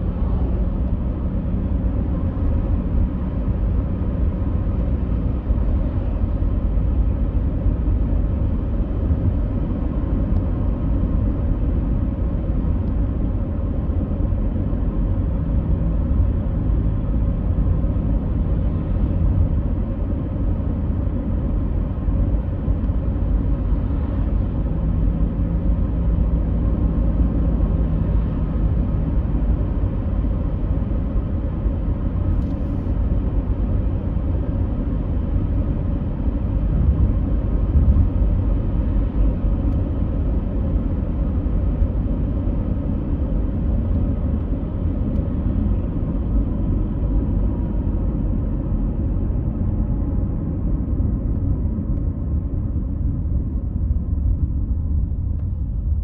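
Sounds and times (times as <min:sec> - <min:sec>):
low rumbling noise: 0:00.0 - 0:56.0.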